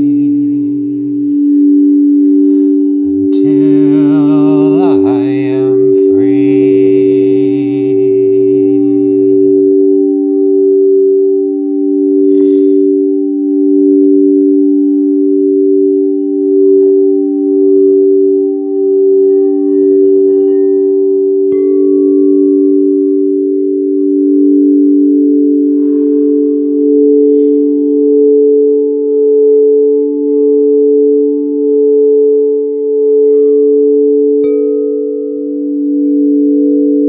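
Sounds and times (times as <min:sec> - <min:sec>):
singing bowl struck: 0:00.0 - 0:37.0
singing bowls ringing: 0:00.0 - 0:37.0.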